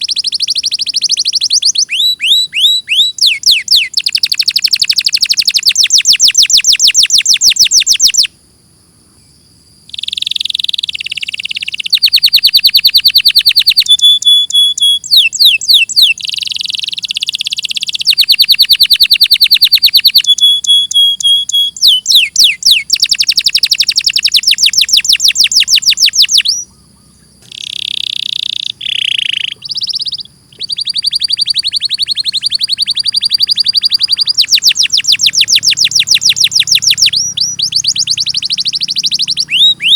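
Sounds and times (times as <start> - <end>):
canary singing: 0.0 - 8.4, 9.9 - 39.9.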